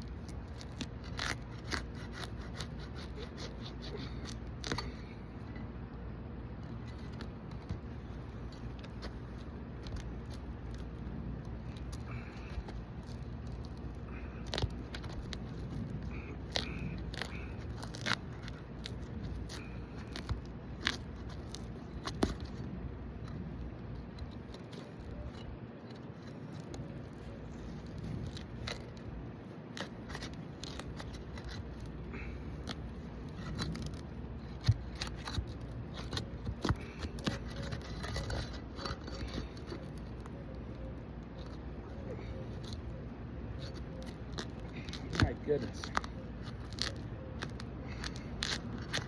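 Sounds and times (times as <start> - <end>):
steady low rumble: 0.0 - 49.0
shingles scraping and crackling: 6.7 - 49.0.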